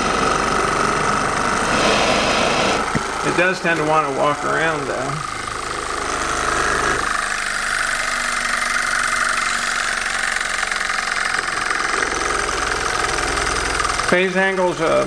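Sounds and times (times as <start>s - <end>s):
small engine mechanical clatter: 0.0s - 15.0s.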